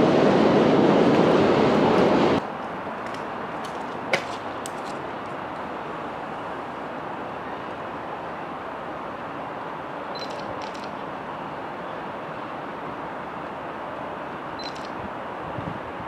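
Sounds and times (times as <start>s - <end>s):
steady background noise: 0.0s - 16.0s
train passing: 0.0s - 16.0s.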